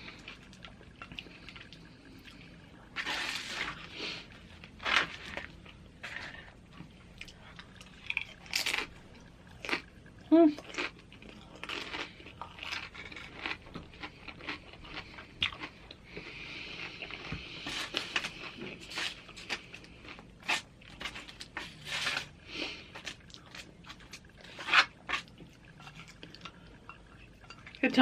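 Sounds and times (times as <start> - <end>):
chewing crunchy chips: 0.0 - 27.8.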